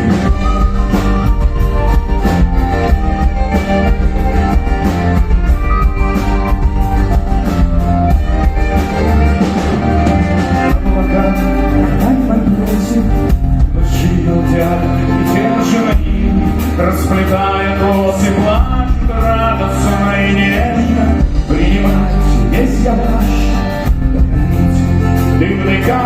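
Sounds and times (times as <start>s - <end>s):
folk-rock band instrumental: 0.0s - 26.0s
steady drum beat: 0.0s - 26.0s.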